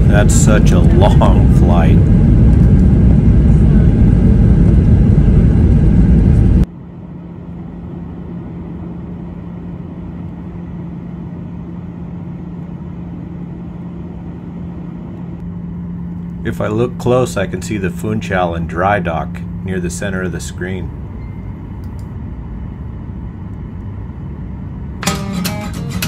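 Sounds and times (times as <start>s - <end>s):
airliner heavy rumble: 0.0s - 26.0s
cabin drone: 0.0s - 26.0s.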